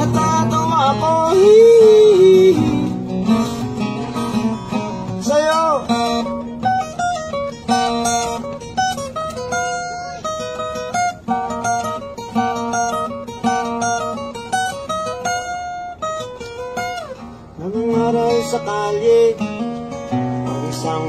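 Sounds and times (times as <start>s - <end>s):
acoustic guitar: 0.0s - 21.0s.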